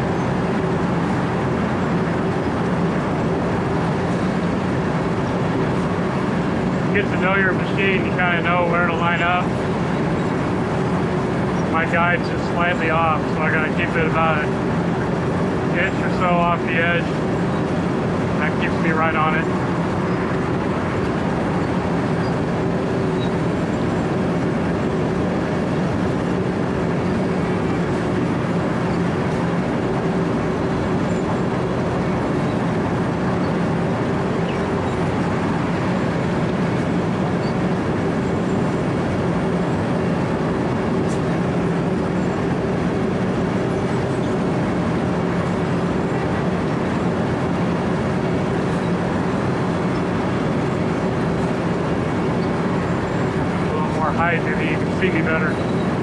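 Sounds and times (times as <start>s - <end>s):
diesel engine hum: 0.0s - 56.0s.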